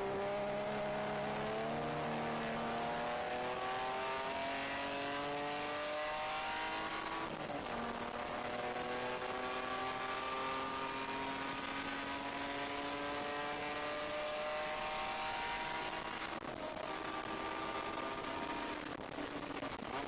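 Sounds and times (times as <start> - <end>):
race car engine accelerating: 0.0 - 19.9.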